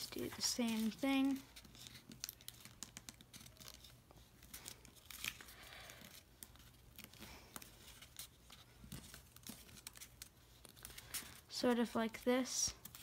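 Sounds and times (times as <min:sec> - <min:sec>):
paper being folded and creased: 0:00.0 - 0:13.0
paper crinkling: 0:00.0 - 0:13.0.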